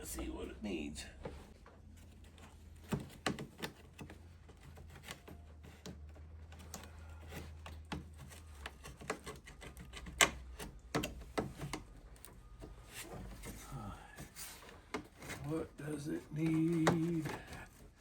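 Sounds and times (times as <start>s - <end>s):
hands prying car trim panel: 2.2s - 15.4s, 16.2s - 18.0s.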